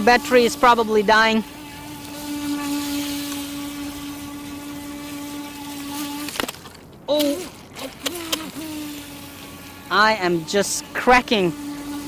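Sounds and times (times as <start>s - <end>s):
electric motor high whine: 0.0s - 12.0s.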